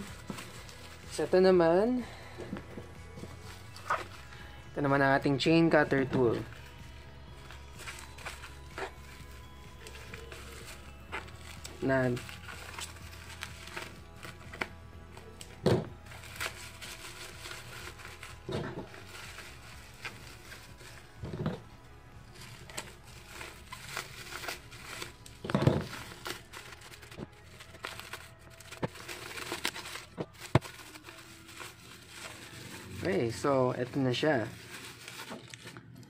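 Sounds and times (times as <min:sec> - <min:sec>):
bubble wrap crinkling: 0:00.0 - 0:04.7, 0:05.3 - 0:36.0
soft background music: 0:00.0 - 0:36.0.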